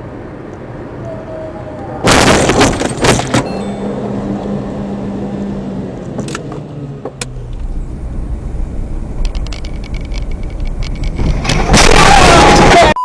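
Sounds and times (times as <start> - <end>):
low hum: 0.0 - 11.9
car engine and road noise: 0.0 - 12.9.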